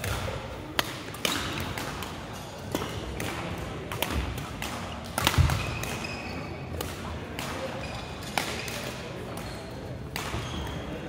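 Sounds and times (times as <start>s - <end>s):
rackets striking shuttlecock: 0.0s - 11.0s.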